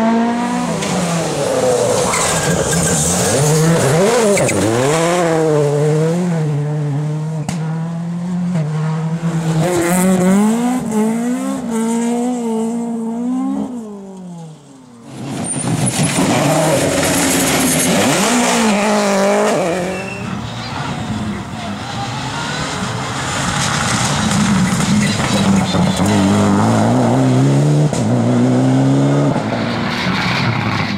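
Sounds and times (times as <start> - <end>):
rally car engine at full throttle: 0.0 - 30.9
rally car revving and passing: 0.0 - 30.9.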